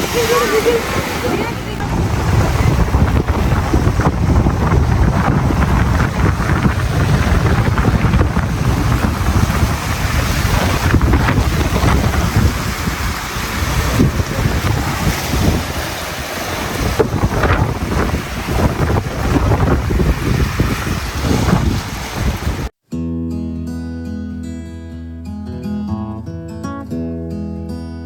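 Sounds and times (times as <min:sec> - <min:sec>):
wind buffeting microphone: 0:00.0 - 0:22.7.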